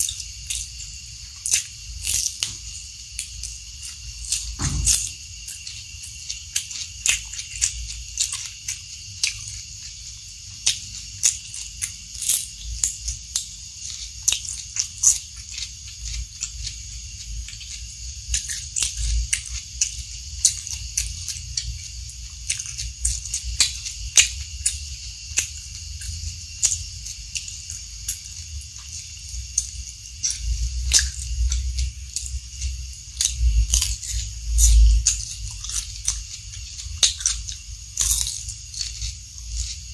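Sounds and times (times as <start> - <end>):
chewing crisp raw vegetables: 0.0 - 39.9
steady hiss: 0.0 - 39.9.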